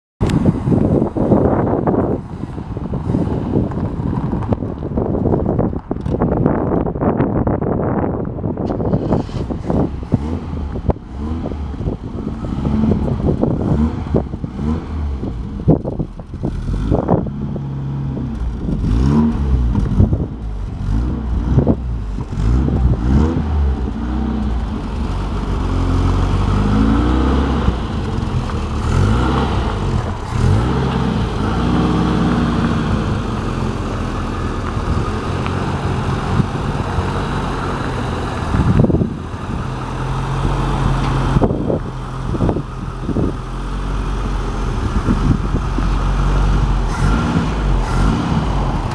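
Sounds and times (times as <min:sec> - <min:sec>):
car engine revving: 0:08.8 - 0:48.9.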